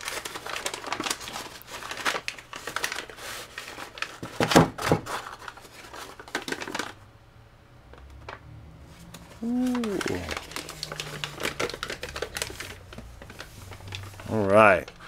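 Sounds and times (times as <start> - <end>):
paper crinkling and rustling: 0.0 - 7.0, 8.2 - 15.0.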